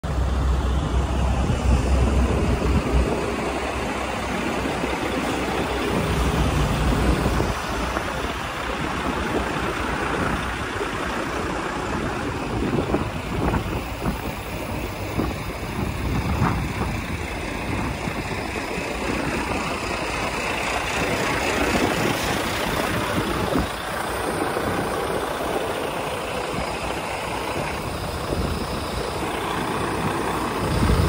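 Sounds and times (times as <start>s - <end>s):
truck diesel engine idling: 0.0s - 31.0s.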